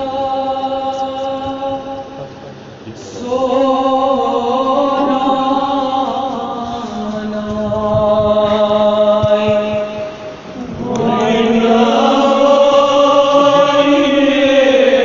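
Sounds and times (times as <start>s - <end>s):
person chanting a lament: 0.0s - 15.0s.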